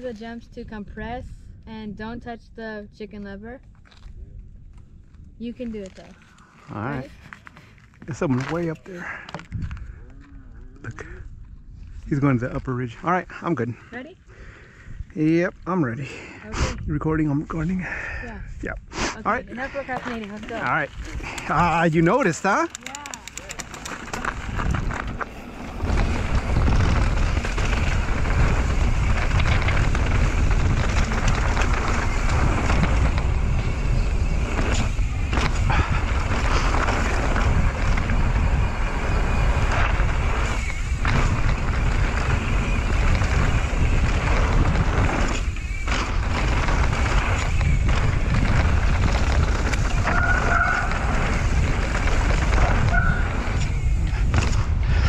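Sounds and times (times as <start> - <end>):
bike tyres rumbling over gravel: 3.8 - 13.0, 19.6 - 55.0
wind rushing over microphone: 8.1 - 55.0.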